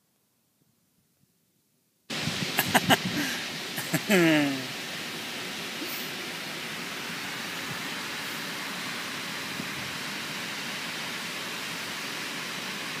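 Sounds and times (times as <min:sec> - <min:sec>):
river rapids rushing: 0:02.1 - 0:13.0.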